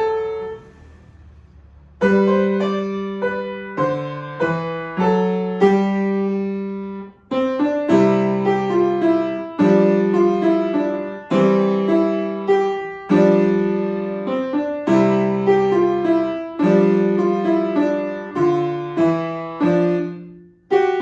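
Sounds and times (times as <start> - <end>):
piano playing a waltz: 0.0 - 0.6, 2.0 - 21.0.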